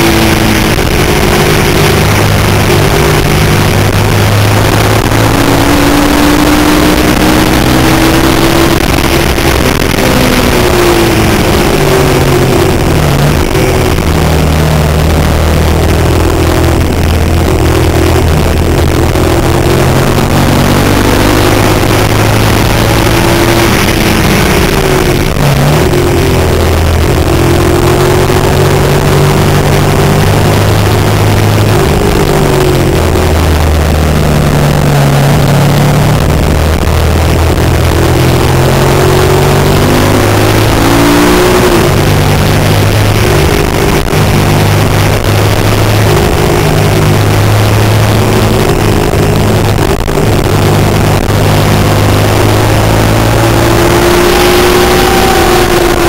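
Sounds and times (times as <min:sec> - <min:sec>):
motorcycle engine accelerating: 0:00.0 - 0:56.0
wind rush: 0:00.0 - 0:56.0.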